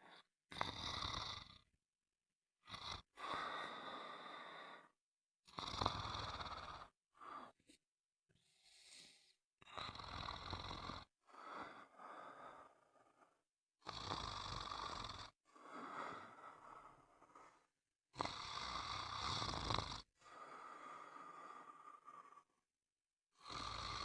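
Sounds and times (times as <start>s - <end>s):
snoring: 0.0s - 1.7s, 2.6s - 7.6s, 8.7s - 22.6s, 23.3s - 24.0s.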